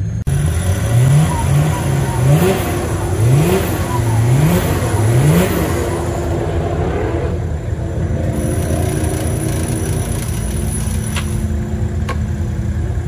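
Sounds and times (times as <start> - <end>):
off-road engine revving: 0.0 - 11.9.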